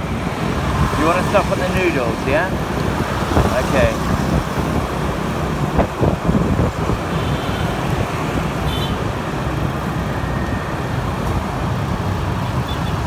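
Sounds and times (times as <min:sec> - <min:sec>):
motorbike traffic noise: 0:00.0 - 0:13.0.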